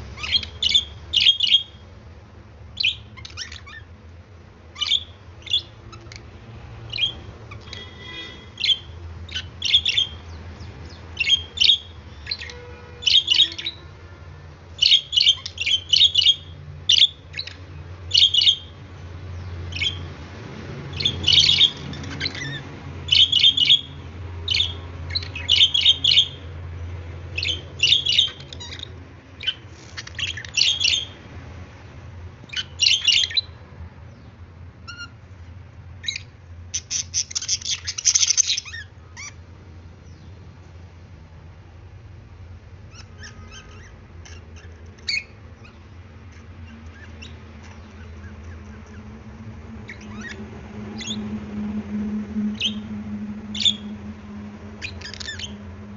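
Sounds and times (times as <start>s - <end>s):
low steady hum: 0.0s - 55.9s
budgerigars chirping and squawking: 0.1s - 1.8s, 2.7s - 4.0s, 4.7s - 13.9s, 14.8s - 20.1s, 20.8s - 26.6s, 27.3s - 31.2s, 32.4s - 33.6s, 34.8s - 35.2s, 36.0s - 39.4s, 42.8s - 55.9s.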